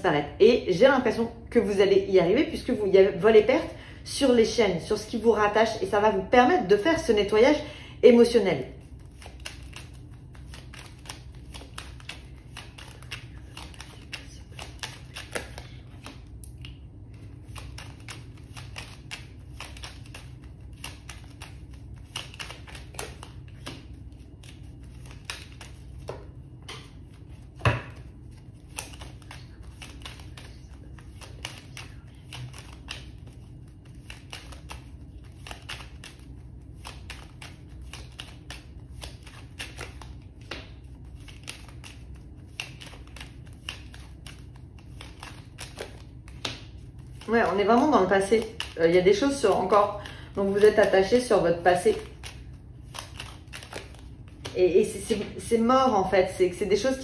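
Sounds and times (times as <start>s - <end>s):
low steady hum: 0.0s - 57.0s
cards shuffled by hand: 8.8s - 55.5s.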